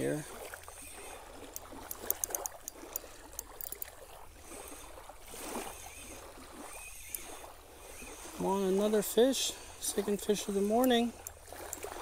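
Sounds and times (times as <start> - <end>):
water lapping at shore: 0.0 - 12.0
fishing reel cranking: 0.6 - 12.0.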